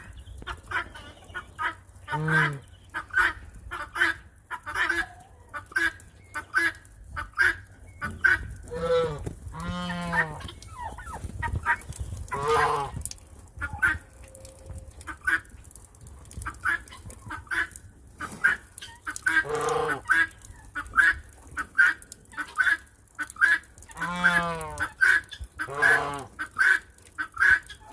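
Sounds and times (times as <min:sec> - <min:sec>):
farm birds calling: 0:00.0 - 0:27.9.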